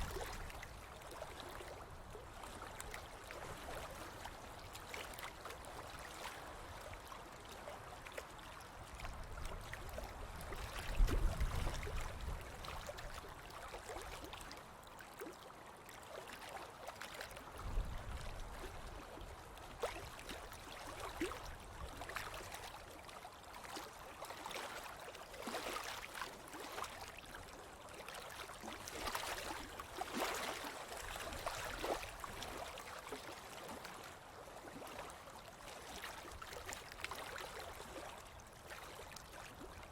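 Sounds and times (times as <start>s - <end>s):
ocean waves on a beach: 0.0s - 39.9s.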